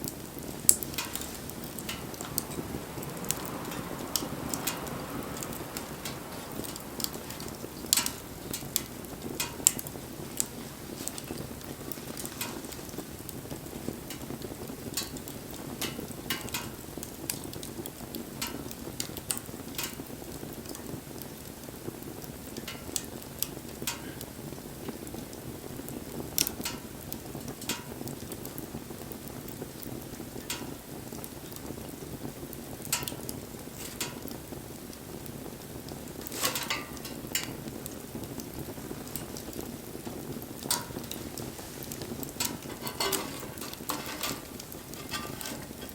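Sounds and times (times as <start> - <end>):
campfire flame rushing: 0.0 - 45.9
fire crackling and popping: 0.0 - 45.9.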